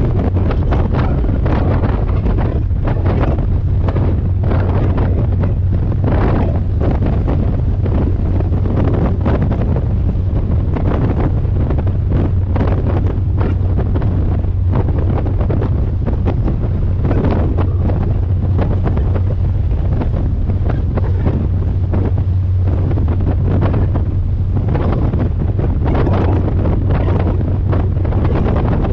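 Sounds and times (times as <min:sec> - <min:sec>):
boat engine drone: 0:00.0 - 0:28.9
wind buffeting microphone: 0:00.0 - 0:28.9.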